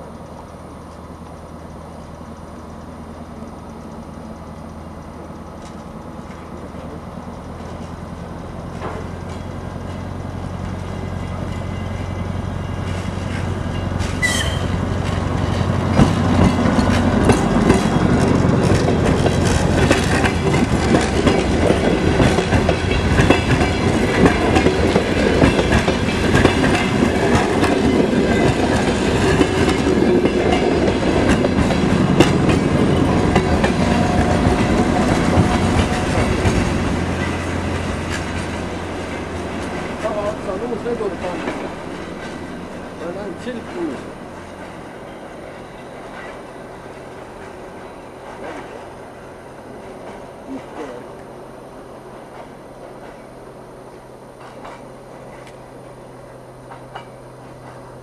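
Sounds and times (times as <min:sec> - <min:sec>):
low diesel drone: 0:00.0 - 0:47.4
train wheels clattering over rail joints: 0:02.7 - 0:58.0.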